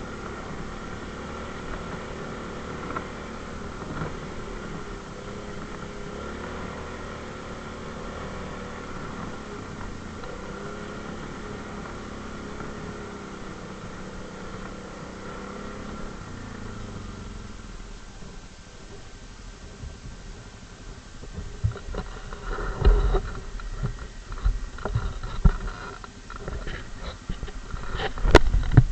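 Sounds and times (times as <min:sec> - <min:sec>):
atv engine running: 0:00.0 - 0:28.9.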